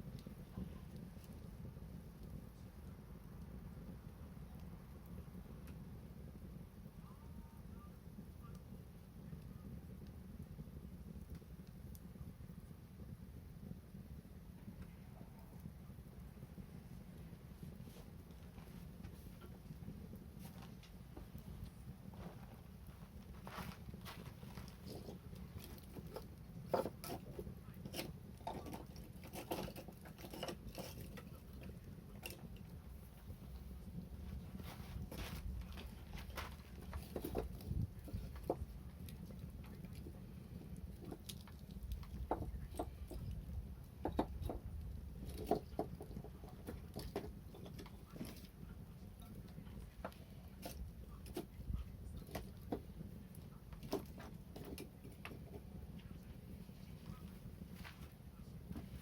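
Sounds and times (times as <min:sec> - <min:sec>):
low fire rumble: 0:00.0 - 0:59.0
wood fire crackling: 0:00.0 - 0:59.0.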